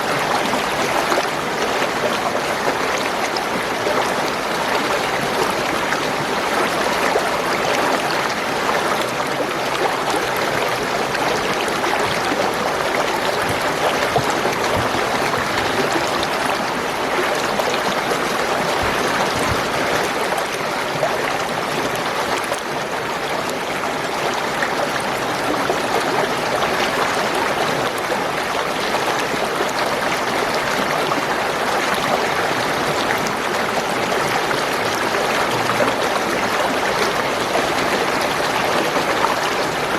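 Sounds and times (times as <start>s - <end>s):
spring water flowing and gurgling: 0.0s - 39.9s.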